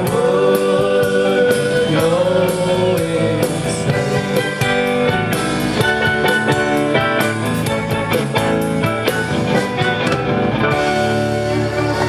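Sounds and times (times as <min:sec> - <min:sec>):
drum kit: 0:00.0 - 0:12.0
electric guitar: 0:00.0 - 0:12.0.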